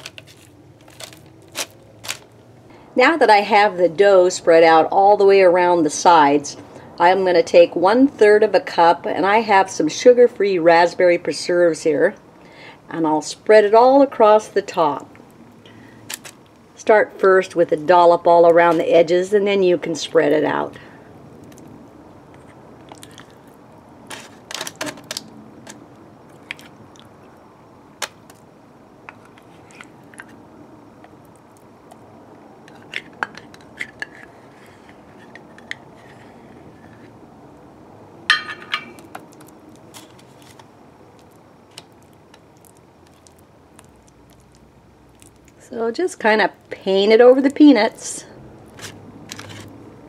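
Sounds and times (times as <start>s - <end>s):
faint steady hiss: 0.0s - 50.0s.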